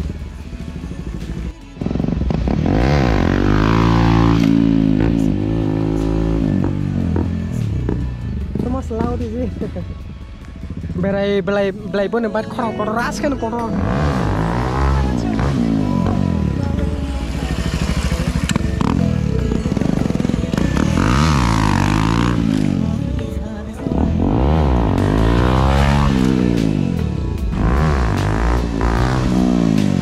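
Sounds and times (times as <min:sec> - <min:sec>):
motorcycle engine revving: 0:00.0 - 0:09.9, 0:13.6 - 0:23.2, 0:23.8 - 0:30.0.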